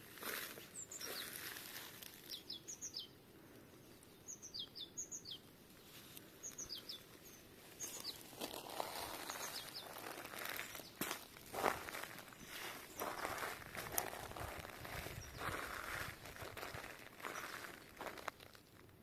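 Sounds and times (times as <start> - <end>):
footsteps rustling on forest floor: 0.0 - 2.5, 5.7 - 18.9
small birds calling: 0.0 - 18.8.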